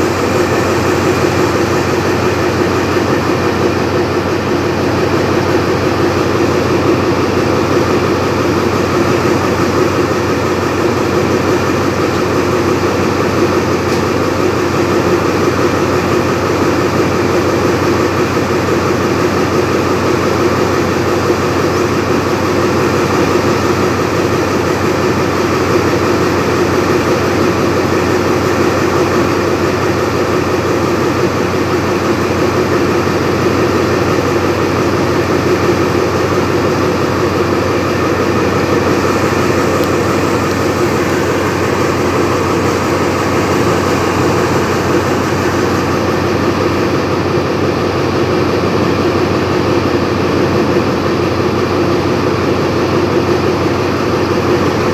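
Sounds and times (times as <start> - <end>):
diesel locomotive idling: 0.0 - 54.9.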